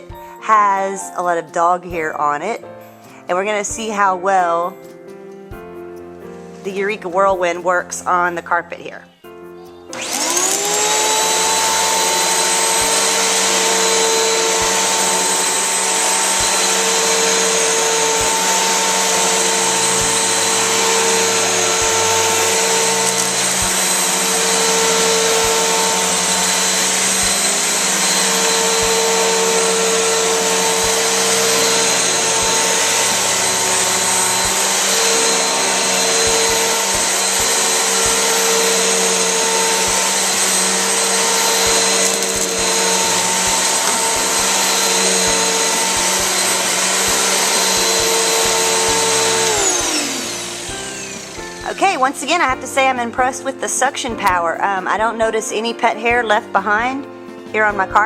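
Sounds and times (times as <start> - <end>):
vacuum cleaner motor whining: 0.0 - 1.4, 9.9 - 55.1.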